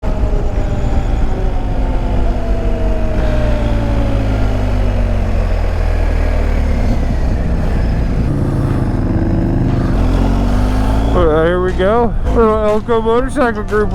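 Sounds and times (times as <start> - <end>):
higher engine note: 0.0 - 13.9
motorcycle engine running: 0.3 - 13.8.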